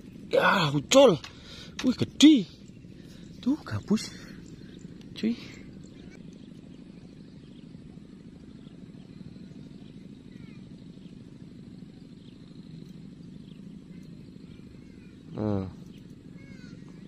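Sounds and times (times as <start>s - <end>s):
pulsing animal chorus: 0.0s - 17.0s
faint high chirps: 1.8s - 17.0s.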